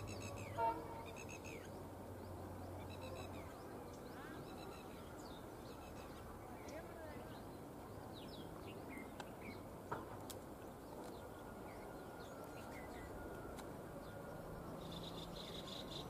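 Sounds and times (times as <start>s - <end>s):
small birds chirping: 0.0s - 13.4s, 14.0s - 16.0s
distant diesel locomotive rumble: 0.0s - 16.0s.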